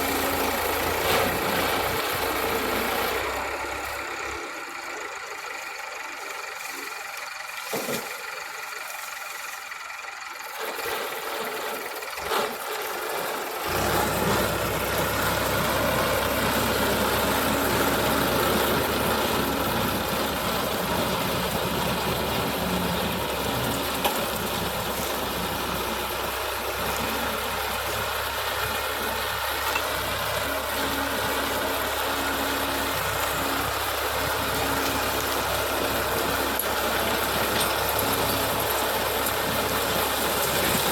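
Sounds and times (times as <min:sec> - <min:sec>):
harvester engine and machinery: 0:00.0 - 0:40.9.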